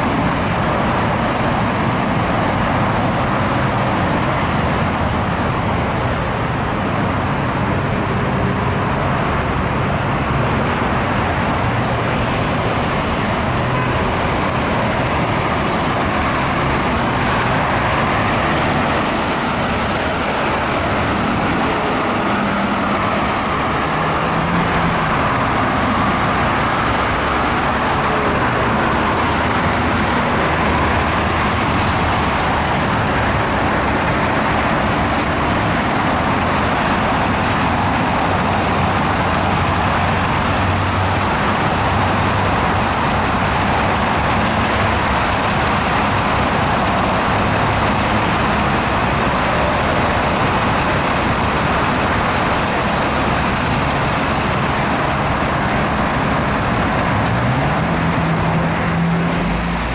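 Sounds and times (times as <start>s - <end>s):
road traffic driving past: 0.0s - 59.9s.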